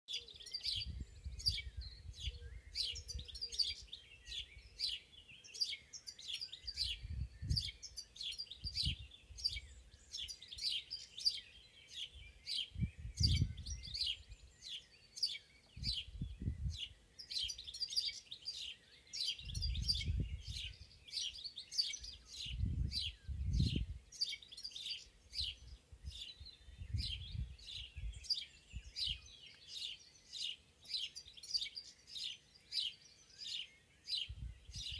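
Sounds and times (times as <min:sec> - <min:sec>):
songbirds chirping and singing: 0:00.1 - 0:34.9.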